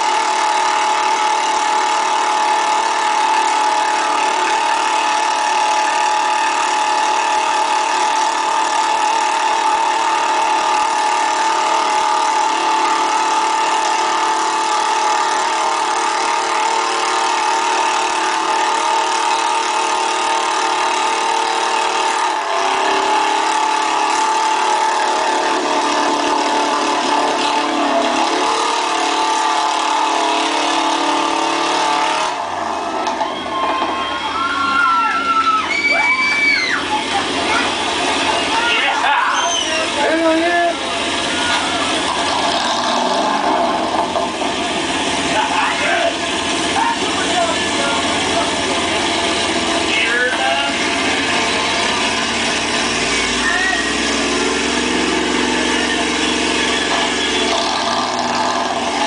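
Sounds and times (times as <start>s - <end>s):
truck engine revving hard: 0.0s - 59.0s.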